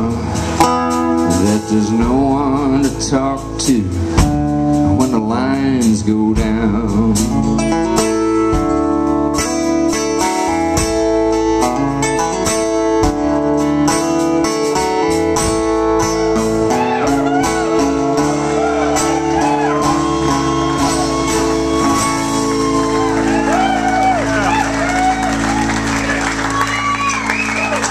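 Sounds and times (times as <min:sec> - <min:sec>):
live country-rock band: 0:00.0 - 0:27.9.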